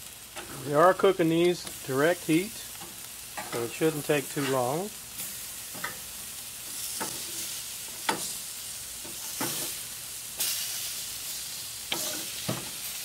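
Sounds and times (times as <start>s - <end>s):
chicken sizzling on a grill: 0.0s - 13.0s
metal tongs scraping grill grates: 0.3s - 13.0s.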